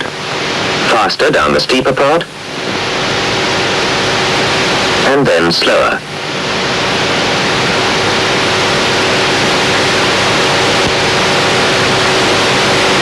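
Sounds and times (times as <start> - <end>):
faint constant hum: 0.0 - 13.0
steady loud hiss: 0.0 - 13.0.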